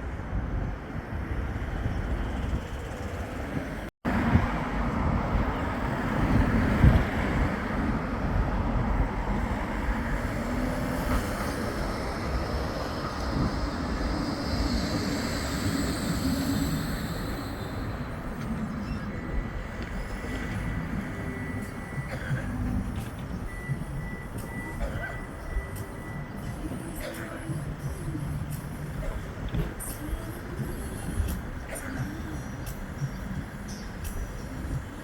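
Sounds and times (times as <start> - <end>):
tram rumbling: 0.0 - 35.0.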